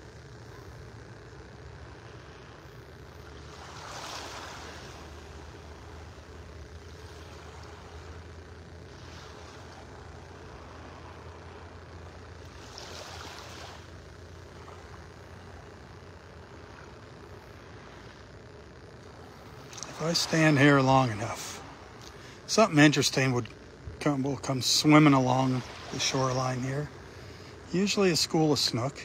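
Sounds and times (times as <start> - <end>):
steady low rumble: 0.0 - 29.0
small waves lapping on sand: 1.8 - 18.3, 19.0 - 29.0.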